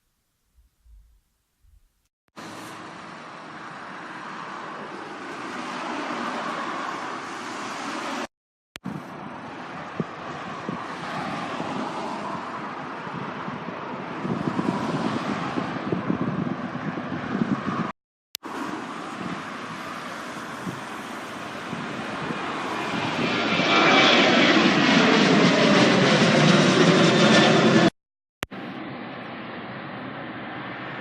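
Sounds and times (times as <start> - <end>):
jet engines roaring: 2.4 - 8.3, 8.9 - 27.9, 28.5 - 31.0.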